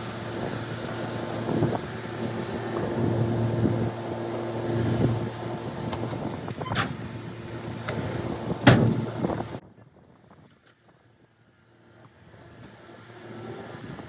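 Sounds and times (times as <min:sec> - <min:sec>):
vehicle running: 0:00.0 - 0:09.6, 0:11.6 - 0:14.0.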